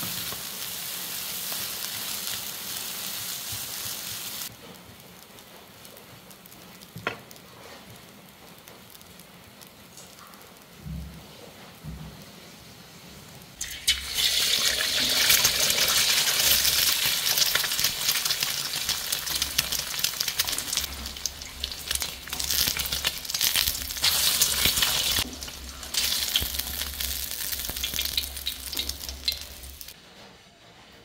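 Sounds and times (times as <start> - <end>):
egg sizzling in hot oil: 0.0 - 10.8, 13.4 - 30.0.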